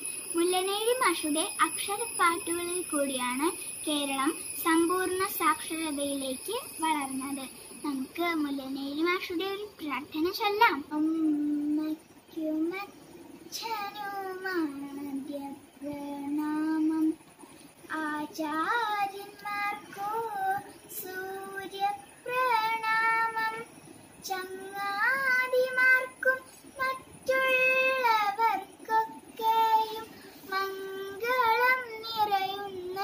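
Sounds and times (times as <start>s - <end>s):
girl singing a prayer: 0.3s - 17.3s, 17.9s - 33.0s.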